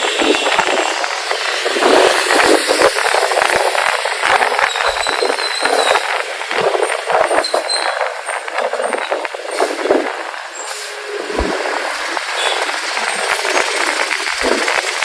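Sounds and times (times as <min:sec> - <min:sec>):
motorcycle riding through traffic: 0:00.0 - 0:15.0
road and traffic rush: 0:00.0 - 0:15.0
small crackles: 0:00.1 - 0:15.0.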